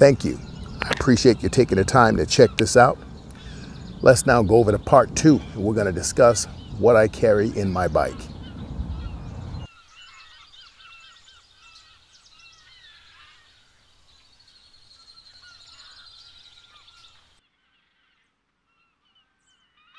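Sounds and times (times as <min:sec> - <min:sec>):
flock of birds calling: 0:00.0 - 0:18.2.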